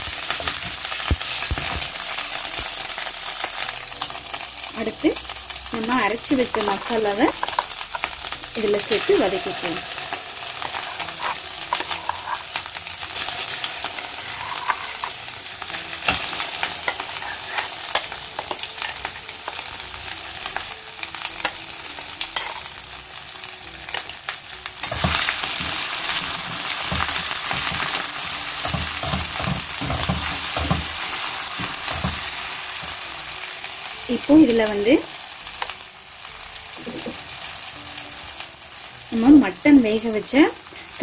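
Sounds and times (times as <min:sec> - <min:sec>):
ghee sizzling in a pan: 0:00.0 - 0:41.0.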